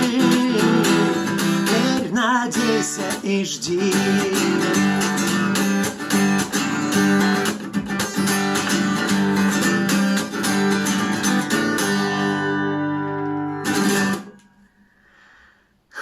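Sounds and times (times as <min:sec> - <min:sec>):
acoustic guitar strumming: 0:00.0 - 0:14.8.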